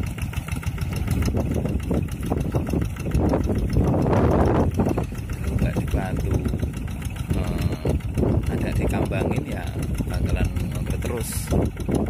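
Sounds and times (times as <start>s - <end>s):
walking tractor engine running: 0.0s - 12.0s
wind buffeting microphone: 0.0s - 12.0s.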